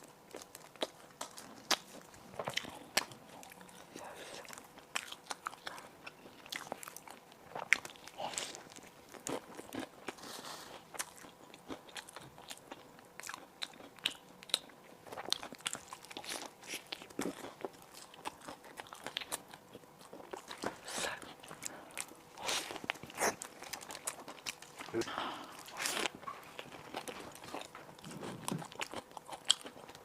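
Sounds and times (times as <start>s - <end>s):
chewing crunchy bread: 0.0s - 30.0s.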